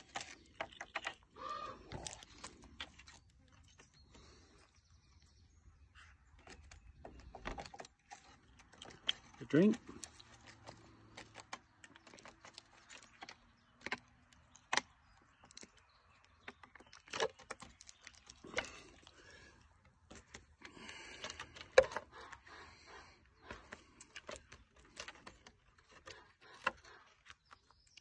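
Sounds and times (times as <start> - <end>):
animal crunching biscuits: 0.0 - 5.3, 5.9 - 28.0.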